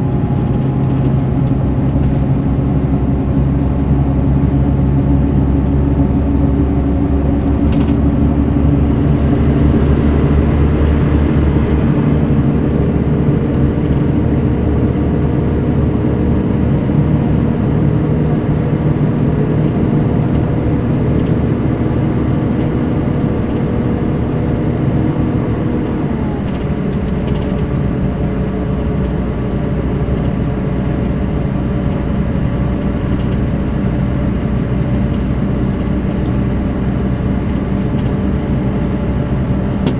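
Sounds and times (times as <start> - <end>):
diesel coach engine running: 0.0 - 39.9.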